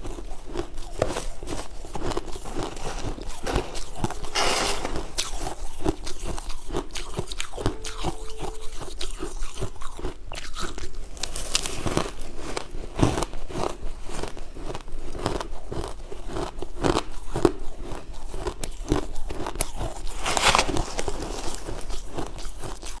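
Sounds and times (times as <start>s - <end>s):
crunching ice being chewed: 0.0s - 23.0s.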